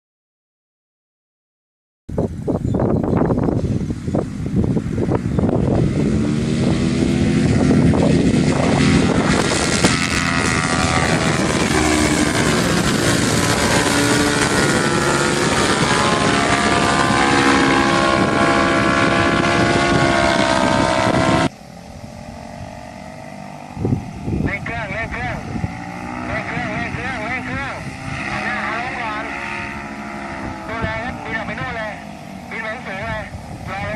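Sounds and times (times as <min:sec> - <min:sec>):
paramotor engine and propeller: 0:02.1 - 0:33.9
wind noise on microphone: 0:02.1 - 0:33.9.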